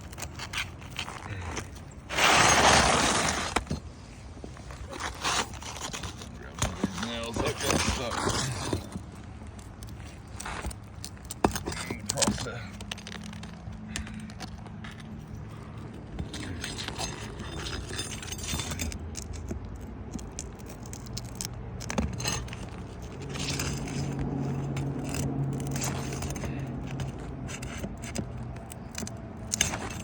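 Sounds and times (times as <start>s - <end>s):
shingles scraping: 0.0s - 30.0s
nails jingling and rattling: 5.0s - 30.0s.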